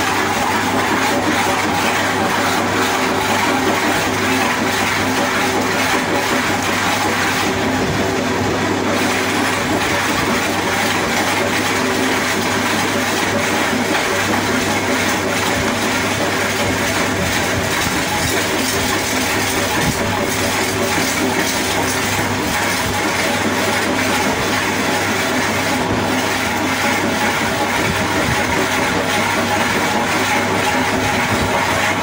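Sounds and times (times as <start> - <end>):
constant motor hum: 0.0 - 32.0
roller drum machine running: 0.0 - 32.0.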